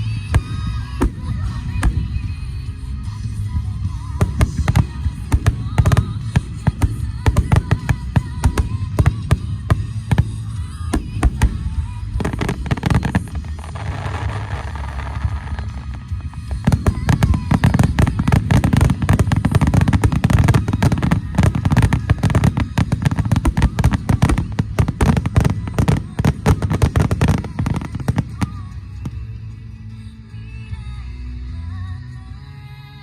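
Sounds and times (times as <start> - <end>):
fireworks bursting and crackling: 0.0 - 29.8
music playing: 0.0 - 33.0.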